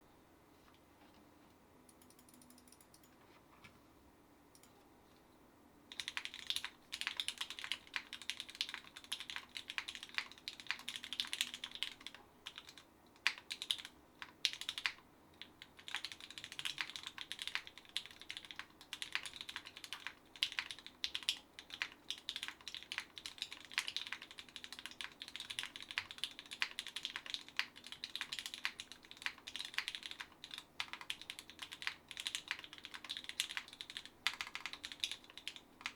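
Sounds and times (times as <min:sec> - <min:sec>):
mechanical keyboard typing: 0:05.9 - 0:35.9.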